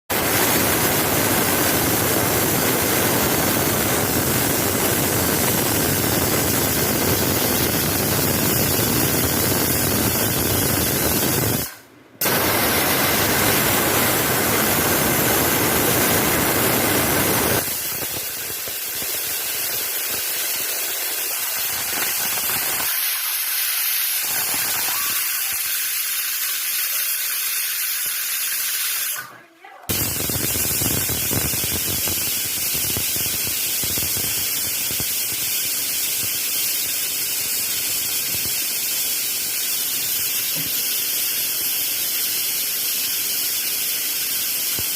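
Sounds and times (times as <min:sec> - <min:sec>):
pressure cooker whistle hissing: 0:00.1 - 0:29.3, 0:29.9 - 0:44.9.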